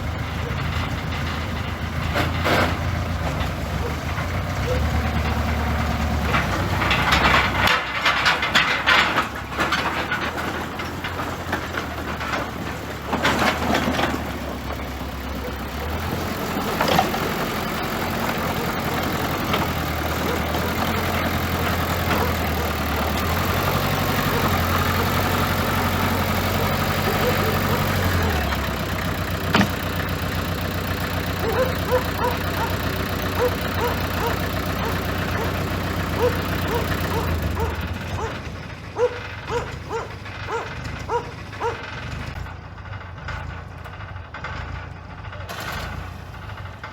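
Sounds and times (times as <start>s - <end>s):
bulldozer diesel engine: 0.0s - 46.9s
rattling noise: 0.0s - 46.9s.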